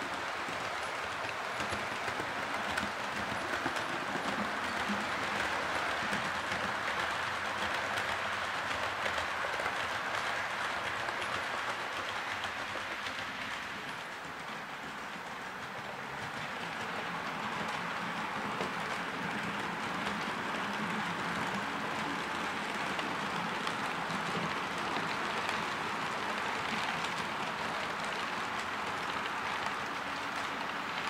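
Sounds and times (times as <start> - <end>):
model train wheels rumbling on rail: 0.0 - 31.0
small track clicks: 0.0 - 31.0.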